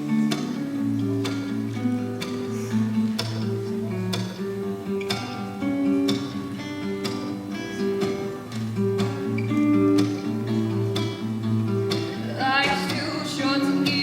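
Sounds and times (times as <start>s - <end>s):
guitar strumming: 0.0s - 14.0s.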